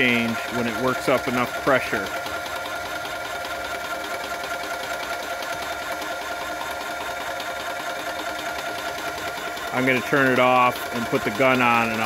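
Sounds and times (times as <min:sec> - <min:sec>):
paint sprayer pump humming: 0:00.0 - 0:12.0.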